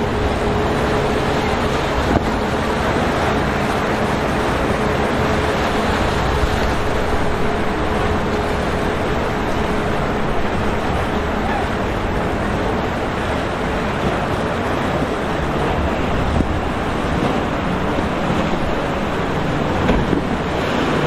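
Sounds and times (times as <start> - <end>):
constant hum: 0.0 - 21.0
engine rushing: 0.0 - 21.0
rushing water: 0.0 - 21.0.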